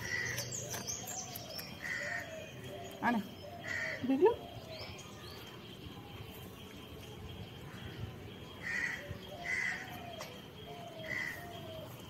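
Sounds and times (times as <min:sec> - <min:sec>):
harsh bird calls: 0:00.0 - 0:05.6, 0:07.6 - 0:12.0.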